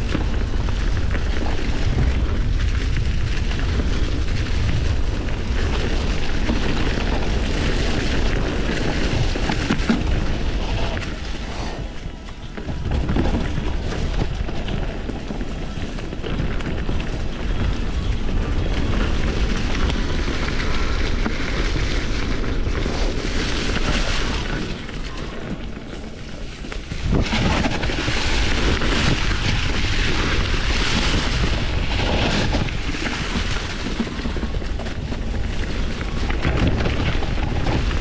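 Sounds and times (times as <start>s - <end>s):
bike rolling on dirt trail: 0.0s - 38.0s
wind buffeting microphone: 0.0s - 38.0s.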